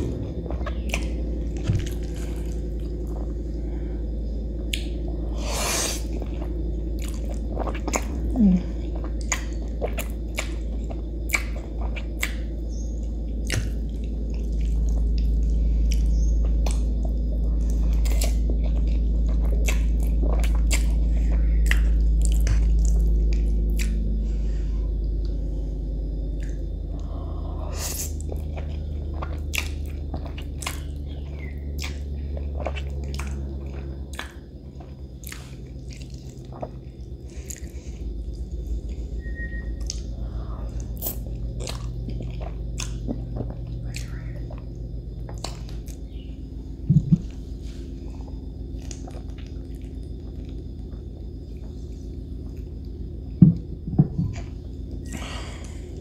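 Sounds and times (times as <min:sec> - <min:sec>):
chewing food: 0:00.0 - 0:03.6, 0:06.0 - 0:24.2, 0:28.0 - 0:55.7
steady low hum: 0:00.0 - 0:56.0.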